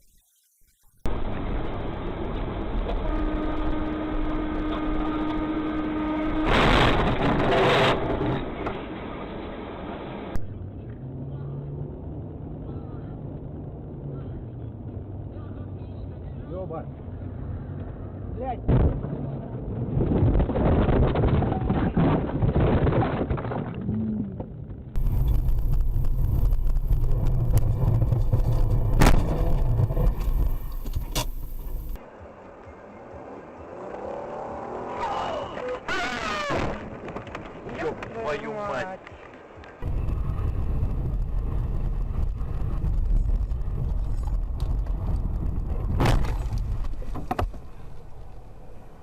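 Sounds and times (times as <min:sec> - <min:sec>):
car engine and road rumble: 0:00.1 - 0:49.0.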